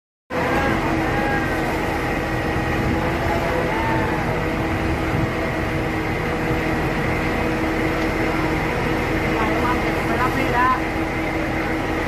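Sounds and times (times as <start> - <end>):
heavy machinery humming: 0.3 - 12.0.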